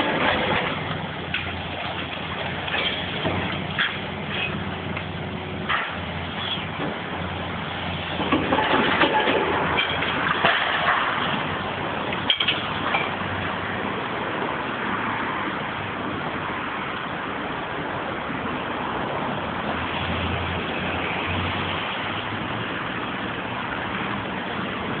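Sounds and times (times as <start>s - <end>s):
excavator diesel engine: 0.0s - 25.0s
traffic: 0.0s - 25.0s.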